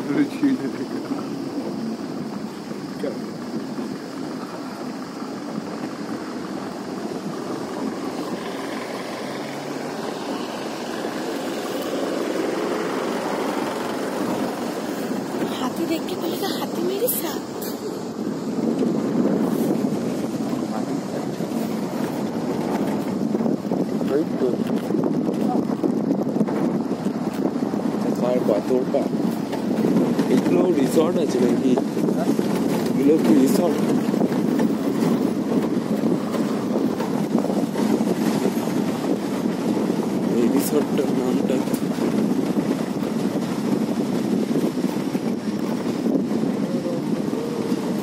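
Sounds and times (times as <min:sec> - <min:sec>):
vehicle rumble: 0:00.0 - 0:48.0
wind buffeting microphone: 0:00.0 - 0:48.0.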